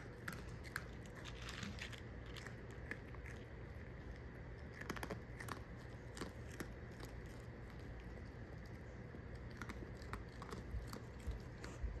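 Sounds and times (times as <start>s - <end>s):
raccoon chewing crunchy cereal: 0.0s - 12.0s.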